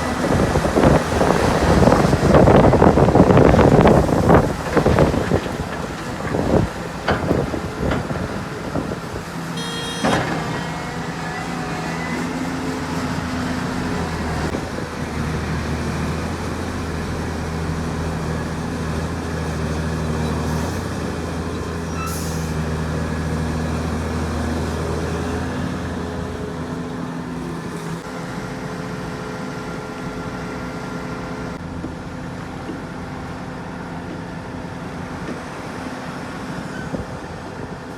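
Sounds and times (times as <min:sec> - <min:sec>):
heavy diesel engine running: 0:00.0 - 0:36.4.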